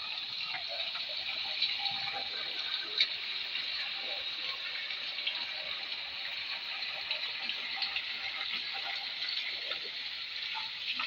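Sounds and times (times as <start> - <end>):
spring water flowing and splashing: 0.0 - 11.0.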